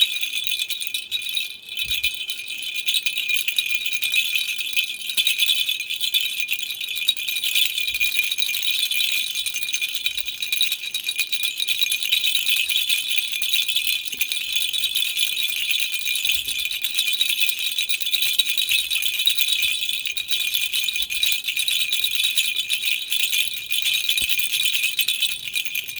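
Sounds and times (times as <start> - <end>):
baby rattle shaken: 0.0 - 26.0.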